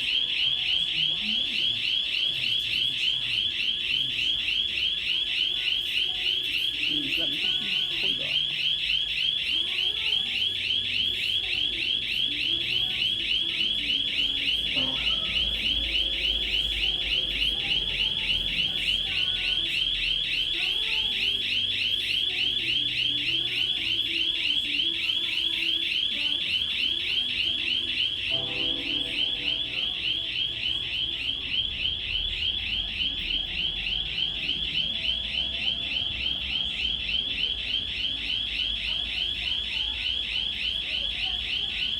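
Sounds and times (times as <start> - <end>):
high-pitched warbling alarm: 0.0 - 41.9.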